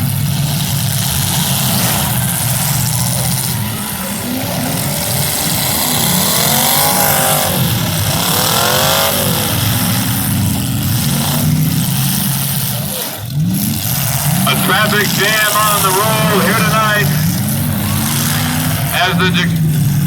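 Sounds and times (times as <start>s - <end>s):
car engines revving: 0.0s - 20.0s
car engines running: 0.0s - 20.0s.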